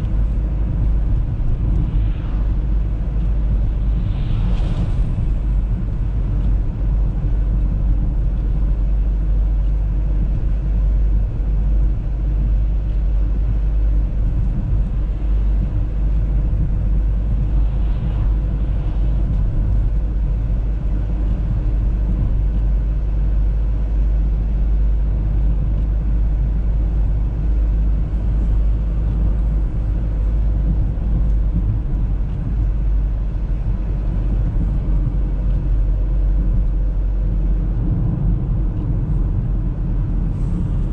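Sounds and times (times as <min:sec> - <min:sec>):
car driving heard from cabin: 0:00.0 - 0:40.9.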